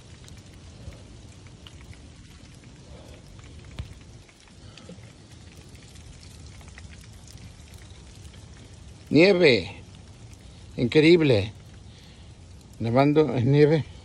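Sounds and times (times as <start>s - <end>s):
wet snow pattering on leaves: 0.0s - 14.0s.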